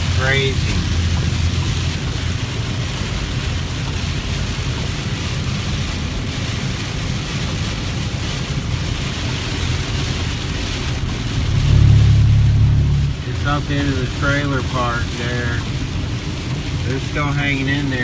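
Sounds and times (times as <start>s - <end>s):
car driving on wet road: 0.0s - 18.0s
heavy rain: 0.0s - 18.0s.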